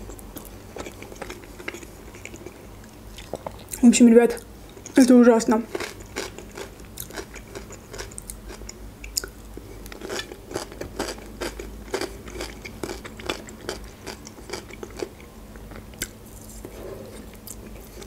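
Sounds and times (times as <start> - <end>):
chewing crunchy salad: 0.0 - 18.0.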